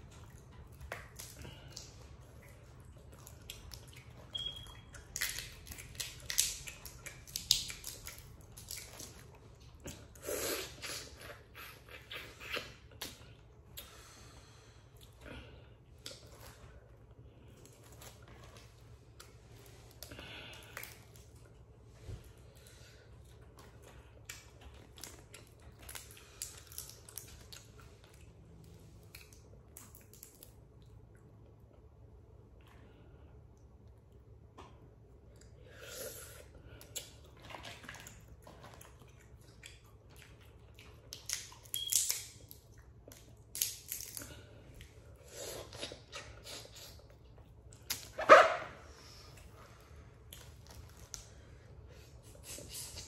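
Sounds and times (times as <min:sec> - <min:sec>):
wet sucking and chewing: 0:00.0 - 0:31.3, 0:35.2 - 0:53.0.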